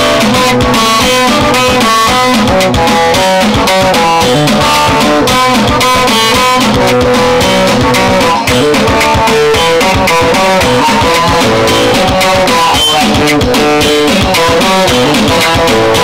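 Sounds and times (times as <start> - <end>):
guitar music over loudspeaker: 0.0 - 16.0.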